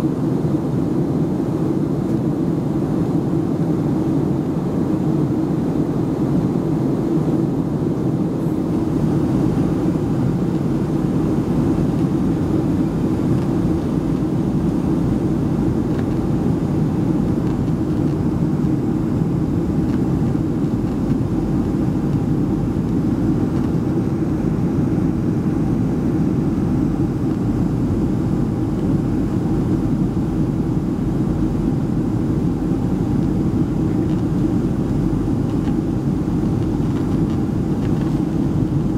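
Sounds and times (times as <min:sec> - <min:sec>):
faint steady hum: 0:00.0 - 0:38.9
airplane cabin rush: 0:01.0 - 0:38.9.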